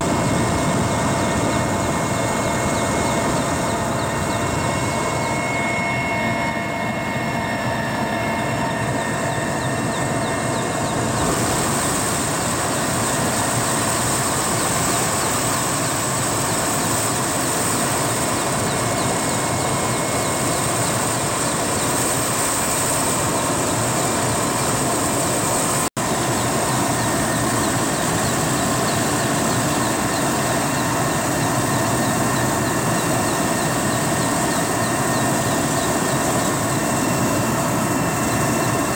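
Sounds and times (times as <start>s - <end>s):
helicopter cabin noise in flight: 0.0s - 38.9s.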